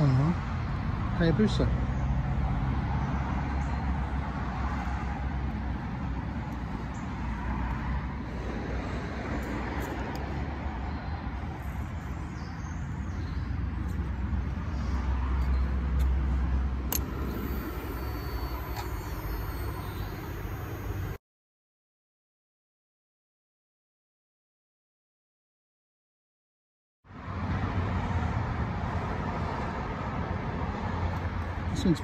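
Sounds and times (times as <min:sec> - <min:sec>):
road traffic rumble: 0:00.0 - 0:21.2, 0:27.1 - 0:32.0.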